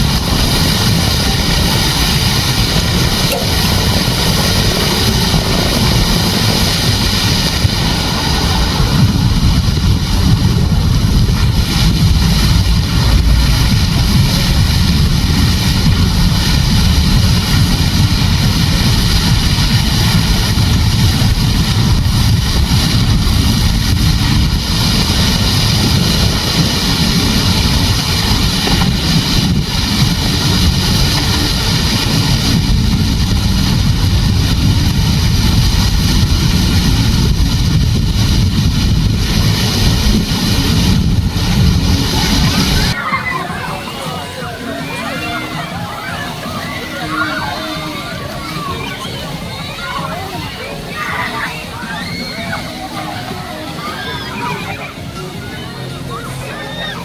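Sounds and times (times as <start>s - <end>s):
wind buffeting microphone: 0.0s - 55.9s
steady rushing hiss: 0.0s - 57.0s.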